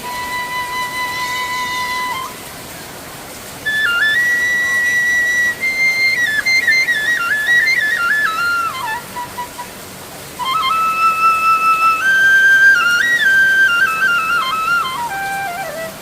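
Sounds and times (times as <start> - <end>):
solo flute melody: 0.0 - 16.0
steady hiss: 0.0 - 16.0.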